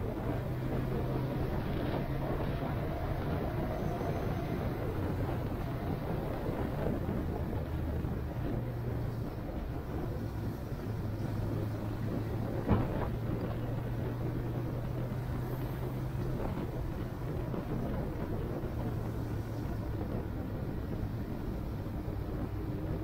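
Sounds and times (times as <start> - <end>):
low engine drone: 0.0 - 23.0
road and wind rumble: 0.0 - 23.0.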